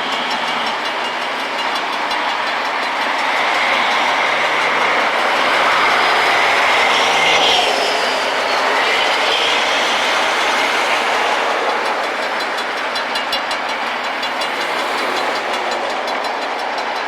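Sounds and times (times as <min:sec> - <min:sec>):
grinding wheels hissing on rail: 0:00.0 - 0:17.0.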